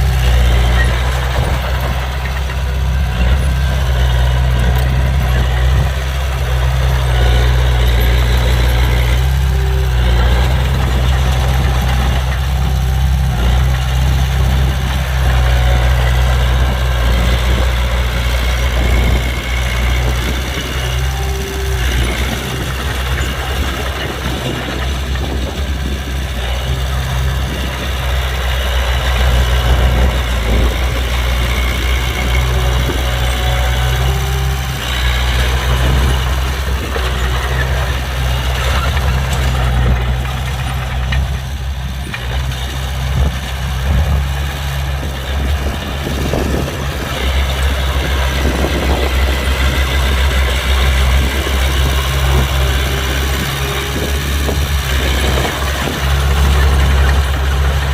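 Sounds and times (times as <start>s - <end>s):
heavy diesel engines idling: 0.0s - 57.9s.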